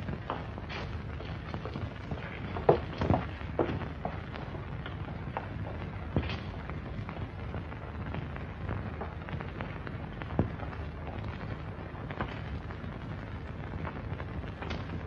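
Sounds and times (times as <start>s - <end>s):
film soundtrack hiss and crackle: 0.0s - 15.0s
small clicks and pops: 0.0s - 15.0s.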